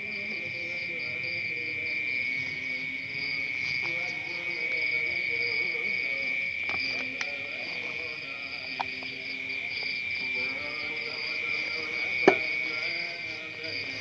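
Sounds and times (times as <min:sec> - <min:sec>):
night insects trilling and chirping: 0:00.0 - 0:14.0.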